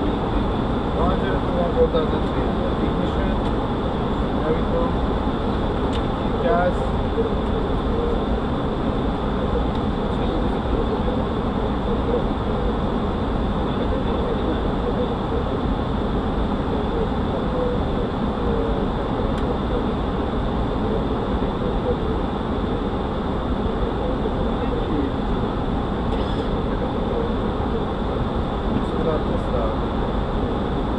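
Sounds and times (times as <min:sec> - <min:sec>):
airflow and engine noise: 0:00.0 - 0:30.9.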